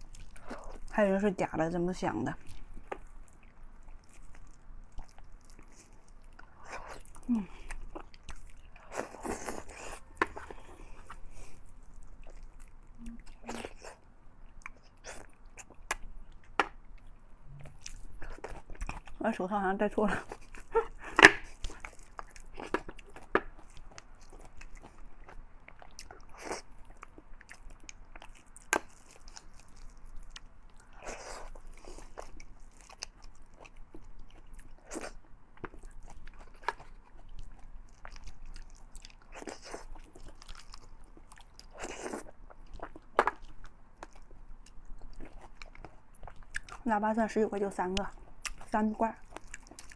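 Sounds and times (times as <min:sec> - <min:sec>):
chewing and biting: 0:02.4 - 0:19.2, 0:20.2 - 0:46.9, 0:47.9 - 0:49.9.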